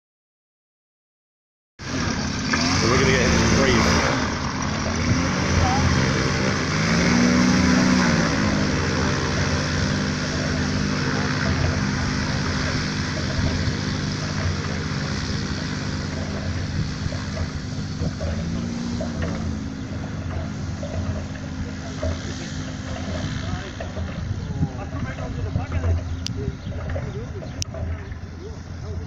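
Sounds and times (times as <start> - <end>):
propeller engine running: 1.8 - 29.0.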